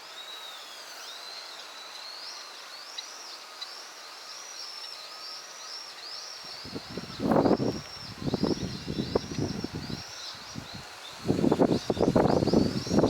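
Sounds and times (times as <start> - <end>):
small songbird calling: 0.0 - 13.0.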